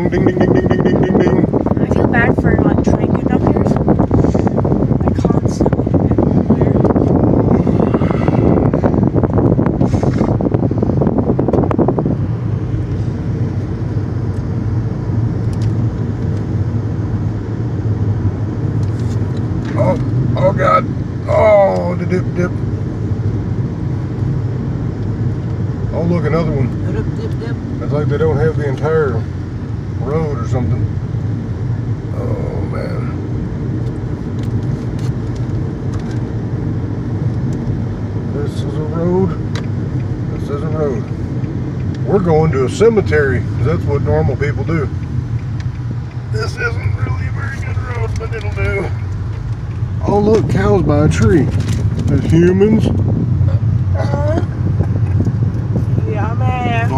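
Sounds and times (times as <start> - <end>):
car road noise rumble: 0.0 - 56.9.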